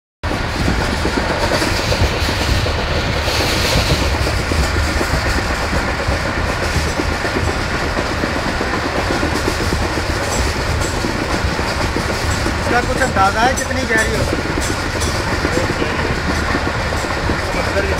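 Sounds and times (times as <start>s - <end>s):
train rumbling: 0.2s - 17.9s
wheels clattering on rails: 0.2s - 17.9s.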